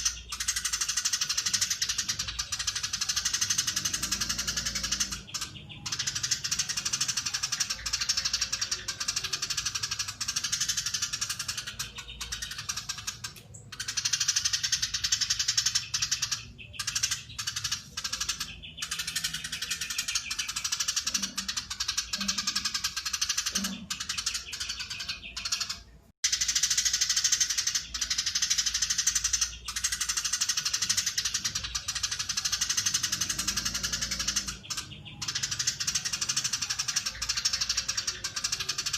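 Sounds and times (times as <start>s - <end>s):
sparrow chattering: 0.0s - 38.9s.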